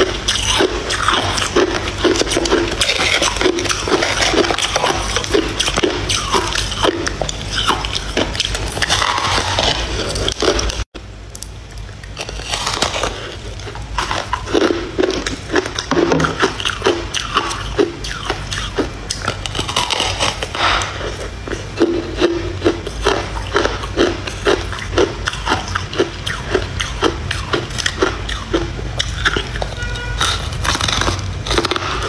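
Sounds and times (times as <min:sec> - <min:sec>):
chewing crunchy ice: 0:00.0 - 0:10.9, 0:11.7 - 0:32.0.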